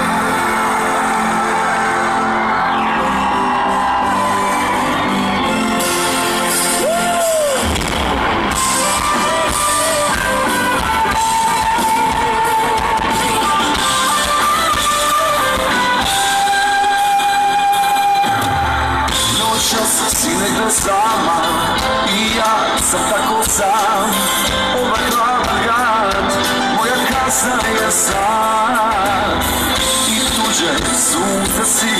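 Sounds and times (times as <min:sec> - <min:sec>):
heavy bass: 0:00.0 - 0:31.7
song with singing and guitar: 0:00.0 - 0:31.9.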